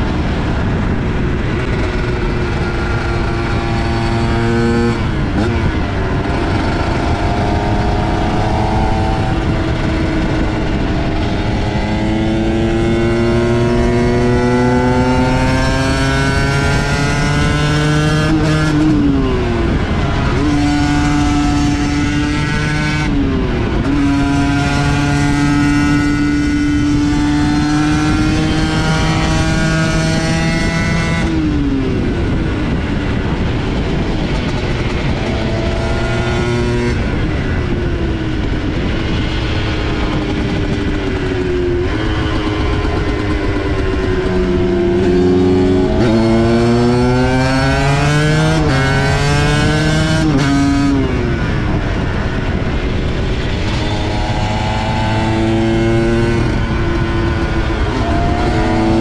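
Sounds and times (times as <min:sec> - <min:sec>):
motorcycle engine accelerating hard: 0:00.0 - 0:59.0.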